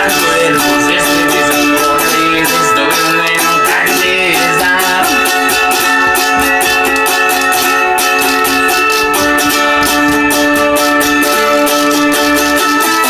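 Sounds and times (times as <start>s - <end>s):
steady beat: 0.0s - 13.0s
strummed string instruments: 0.0s - 13.0s.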